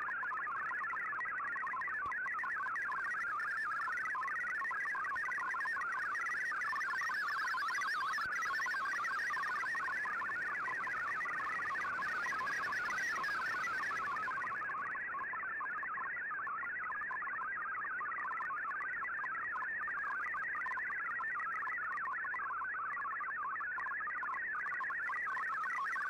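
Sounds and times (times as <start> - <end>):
warbling digital data signal: 0.1 - 26.0.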